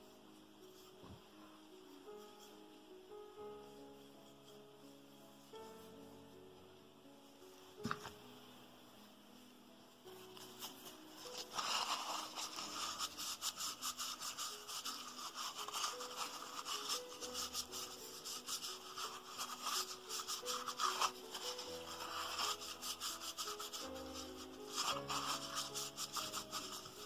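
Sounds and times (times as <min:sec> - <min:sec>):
tissue wiping metal: 0:00.0 - 0:08.4, 0:09.0 - 0:27.0
soft background music: 0:00.0 - 0:27.0.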